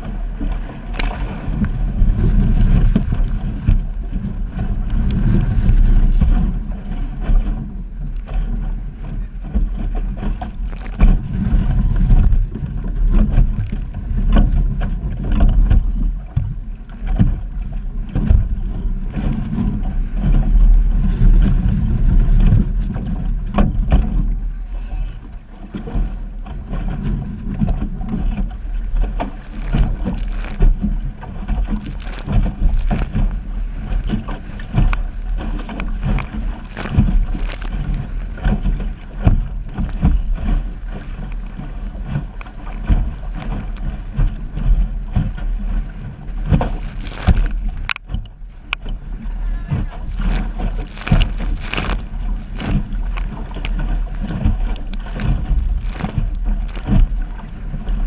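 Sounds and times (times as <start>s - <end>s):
hull slapping waves: 0.0s - 58.0s
water rushing past hull: 0.0s - 58.0s
wind buffeting microphone: 0.0s - 58.0s.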